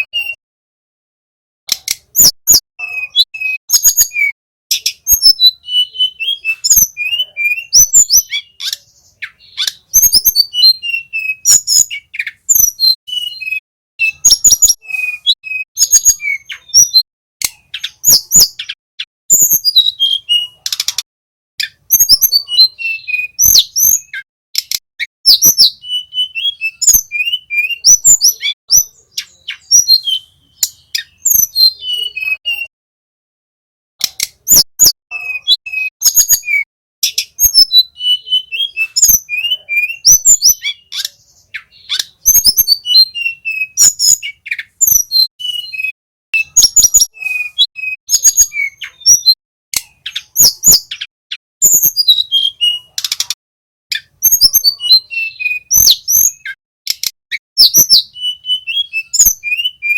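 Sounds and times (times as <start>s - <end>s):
flycatcher singing: 2.1s - 20.8s, 21.6s - 32.7s, 34.4s - 53.1s.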